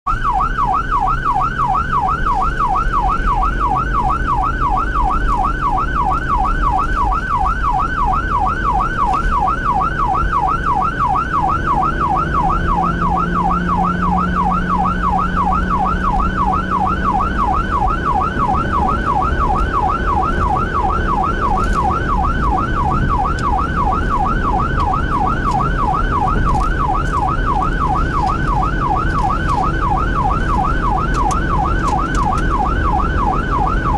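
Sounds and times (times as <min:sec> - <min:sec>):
engine and road rumble: 0:00.1 - 0:33.9
fire engine siren yelping: 0:00.1 - 0:33.9.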